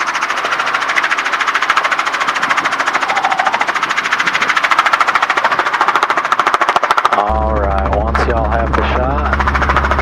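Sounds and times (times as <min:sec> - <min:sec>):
helicopter rotor chopping: 0:00.0 - 0:10.0.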